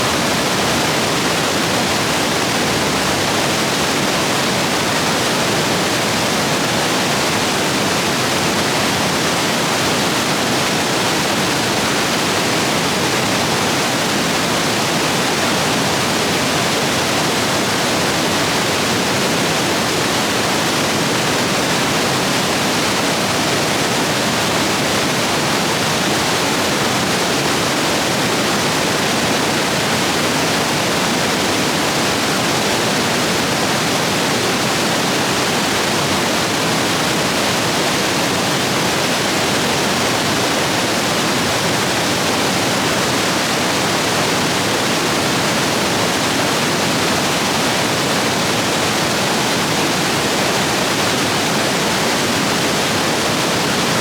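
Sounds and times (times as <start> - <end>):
stream rapids rushing: 0.0 - 54.0.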